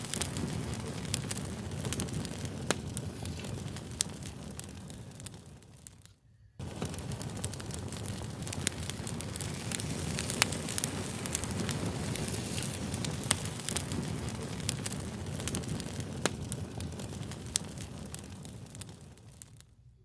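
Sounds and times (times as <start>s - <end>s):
sharp pops and snaps of fire: 0.0s - 19.8s
fire crackling: 0.0s - 19.9s.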